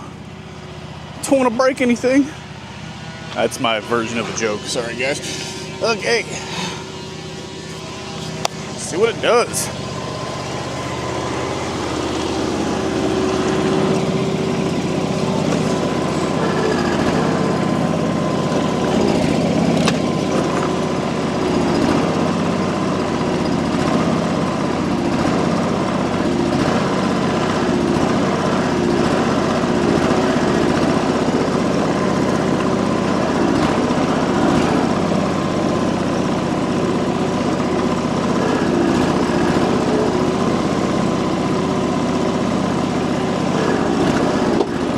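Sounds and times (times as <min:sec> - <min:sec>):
garden tractor engine running: 0:00.0 - 0:44.9.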